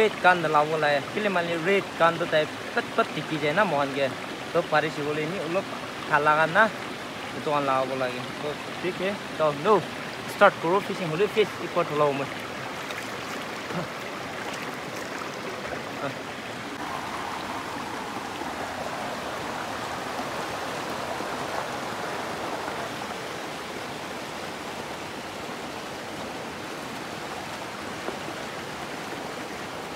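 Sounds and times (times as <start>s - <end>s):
stream rushing over rocks: 0.0s - 29.9s.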